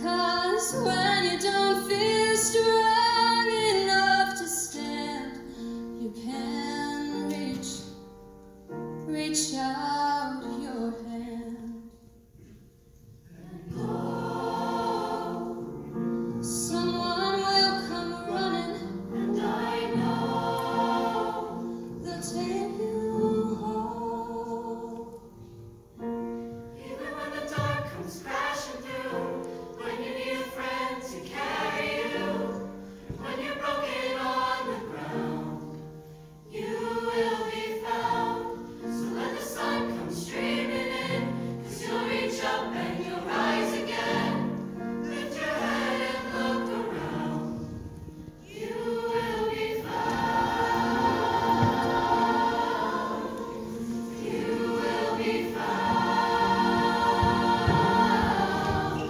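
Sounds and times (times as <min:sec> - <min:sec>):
choir singing in harmony: 0:00.0 - 0:12.5, 0:13.2 - 0:59.0.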